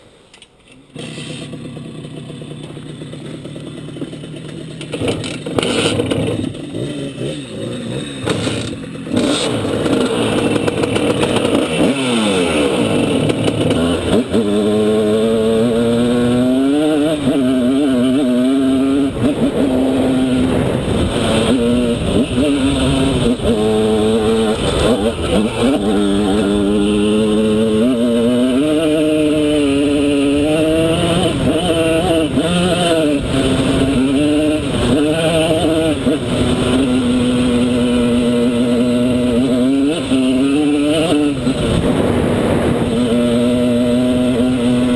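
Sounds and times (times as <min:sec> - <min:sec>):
two-stroke motorcycle engine revving: 0:00.8 - 0:44.9.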